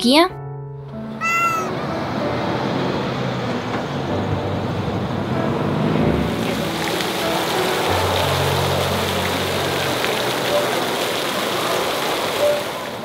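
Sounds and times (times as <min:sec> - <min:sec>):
passing road traffic: 0:00.9 - 0:13.0.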